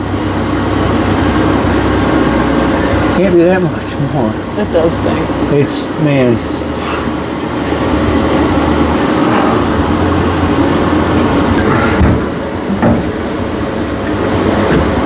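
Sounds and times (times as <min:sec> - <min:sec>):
loud rumbling hum: 0:00.0 - 0:15.0.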